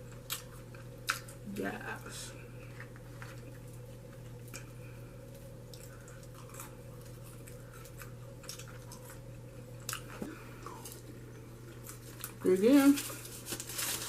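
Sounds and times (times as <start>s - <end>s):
faint chewing: 0.0s - 1.4s, 2.5s - 13.6s
steady low hum: 0.0s - 14.0s.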